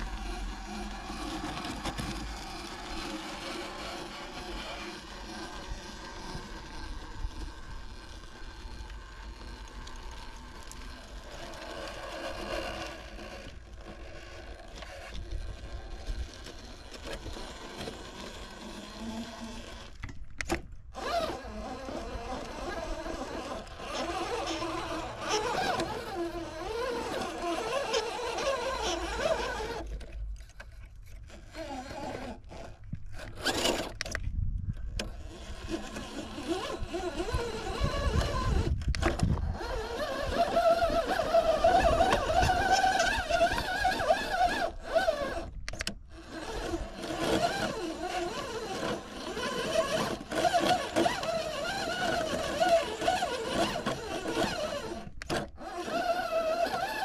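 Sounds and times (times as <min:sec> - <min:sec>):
rc car motor whine: 0:00.0 - 0:34.2, 0:34.8 - 0:57.0.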